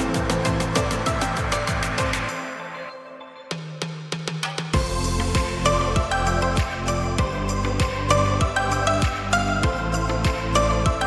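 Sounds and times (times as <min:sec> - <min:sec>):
pop music with drum beat and bass: 0:00.0 - 0:11.0.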